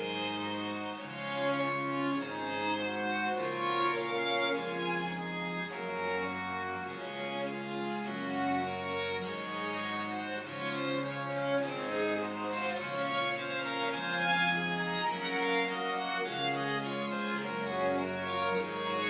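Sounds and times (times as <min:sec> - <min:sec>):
violin and cello music: 0:00.0 - 0:19.0.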